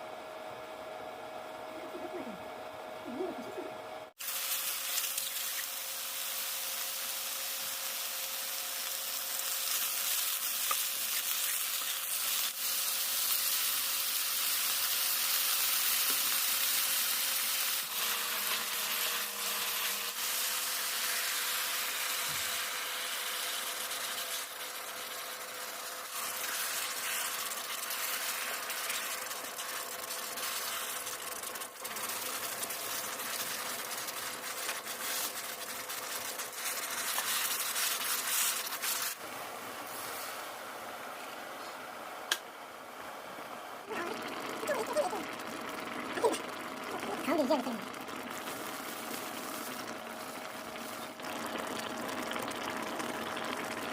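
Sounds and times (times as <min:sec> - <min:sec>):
food sizzling in a pan: 0:04.2 - 0:39.2, 0:43.9 - 0:53.9.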